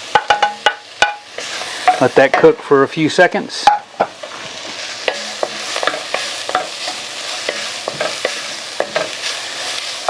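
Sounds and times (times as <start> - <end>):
onion and garlic sizzling in pan: 0.0 - 10.0
utensil knocking and scraping pan: 0.1 - 2.6, 3.6 - 9.4.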